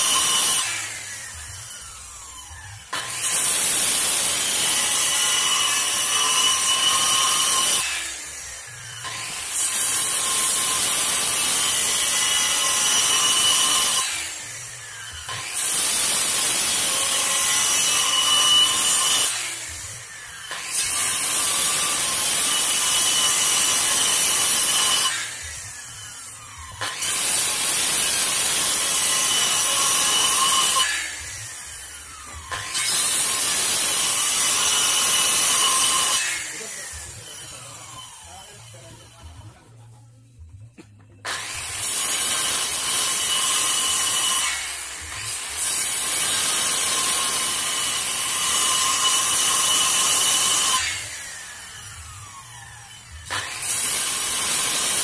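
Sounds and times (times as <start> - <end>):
circular saw cutting wood: 0.0 - 40.0, 40.8 - 55.0.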